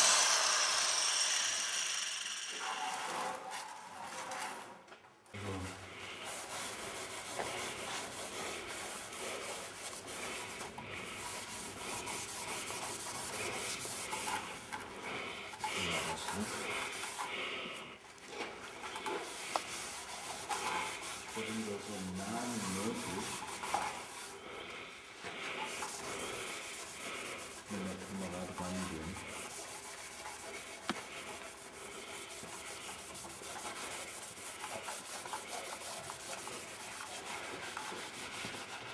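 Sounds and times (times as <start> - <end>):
abrasive pad scrubbing metal: 0.0 - 3.8, 6.0 - 17.8, 18.9 - 24.4, 25.4 - 38.9.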